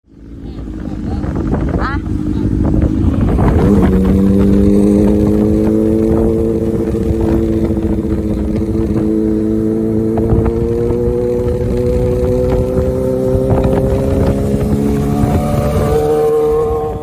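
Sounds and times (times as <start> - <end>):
motorcycle engine running: 0.0 - 17.0
wind rushing on microphone: 0.1 - 17.0.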